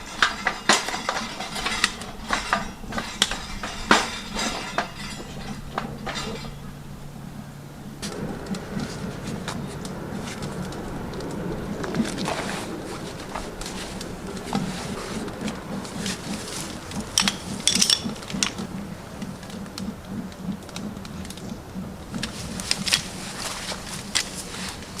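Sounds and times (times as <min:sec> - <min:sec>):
low steady hum: 0:00.0 - 0:25.0
wood fire crackling: 0:00.0 - 0:25.0.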